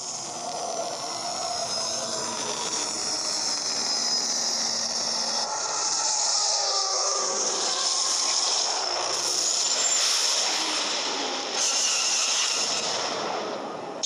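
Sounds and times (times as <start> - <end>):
spacecraft engine rumble and hiss: 0.0 - 11.8.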